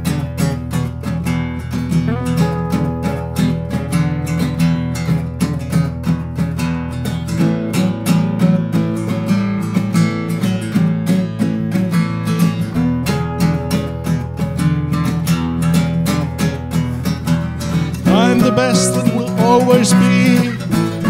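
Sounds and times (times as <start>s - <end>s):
bass: 0.0s - 21.0s
strummed acoustic guitar: 0.0s - 21.0s.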